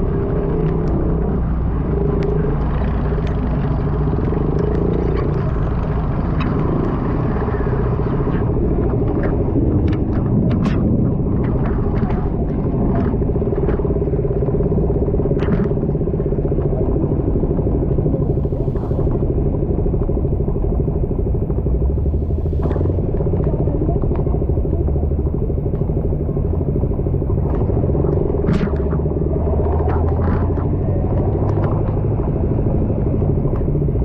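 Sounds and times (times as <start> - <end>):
motorcycle engine drone: 0.0 - 34.0
road and wind rumble: 0.0 - 34.0.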